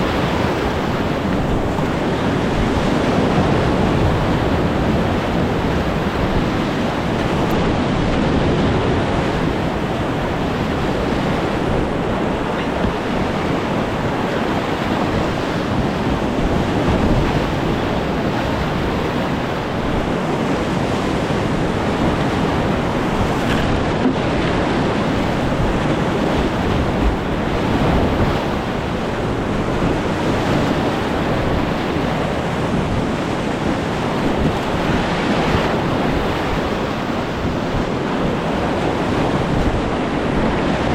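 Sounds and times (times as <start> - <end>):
rushing whitewater: 0.0 - 40.9
wind buffeting microphone: 0.0 - 40.9.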